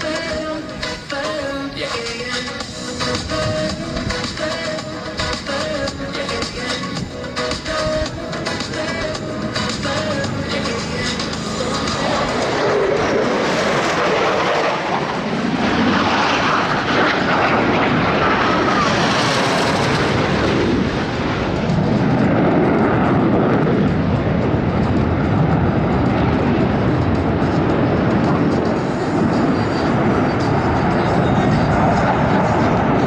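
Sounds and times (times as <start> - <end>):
faint jet whine: 0.0 - 33.0
loud jet roar: 0.0 - 33.0.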